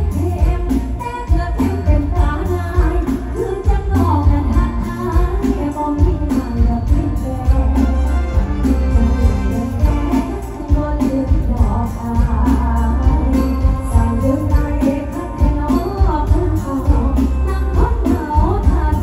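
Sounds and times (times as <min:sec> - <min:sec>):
live music through loudspeakers: 0:00.0 - 0:19.0
woman singing into microphone: 0:00.0 - 0:19.0.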